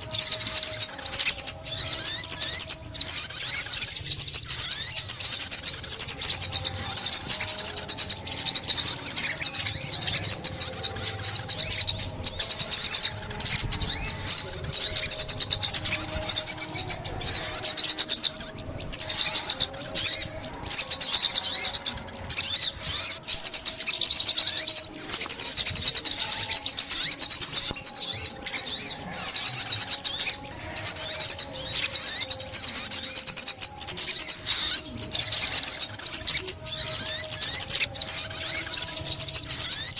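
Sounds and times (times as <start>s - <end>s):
bird high-pitched twittering: 0.0s - 39.9s.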